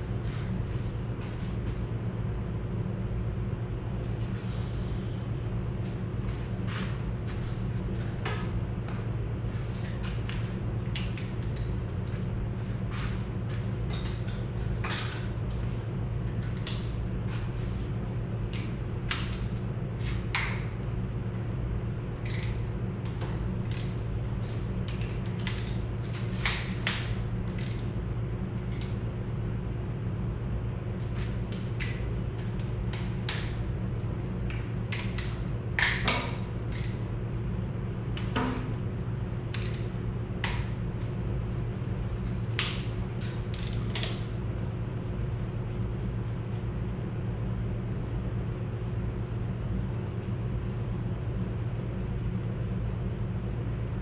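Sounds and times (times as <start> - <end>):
shop fan humming: 0.0 - 54.0.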